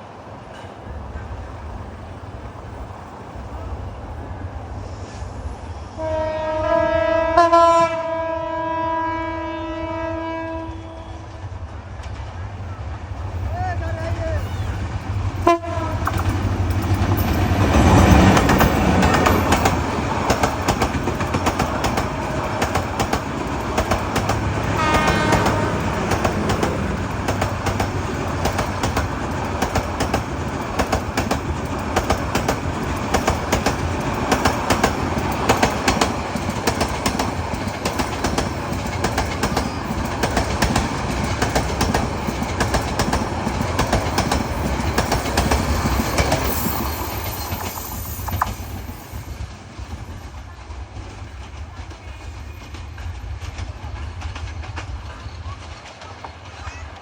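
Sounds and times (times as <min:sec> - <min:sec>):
train wheels clattering on rails: 0:00.0 - 0:02.0, 0:11.2 - 0:57.0.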